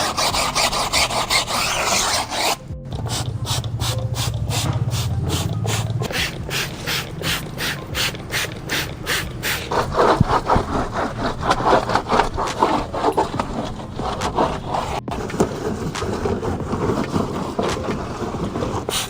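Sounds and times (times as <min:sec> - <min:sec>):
stiff brush scrubbing: 0:00.0 - 0:19.0.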